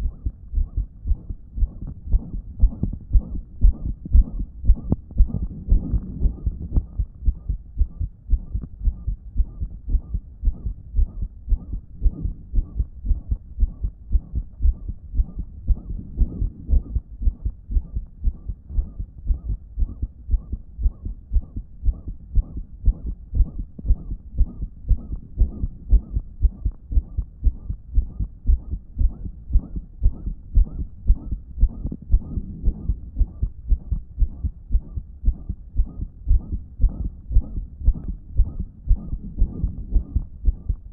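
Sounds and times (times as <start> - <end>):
blowing heart murmur: 0.0 - 40.9
heart beating: 0.0 - 40.9.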